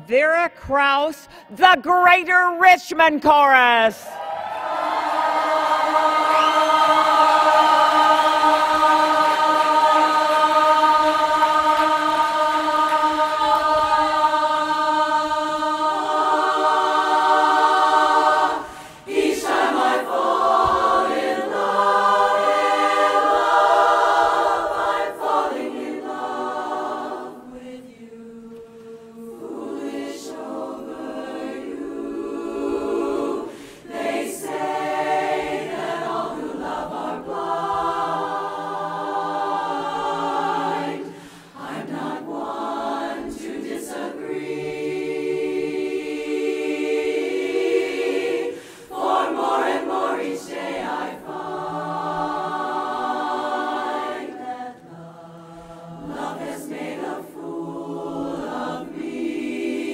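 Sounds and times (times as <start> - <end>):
women's chorus singing a cappella: 4.1 - 59.9.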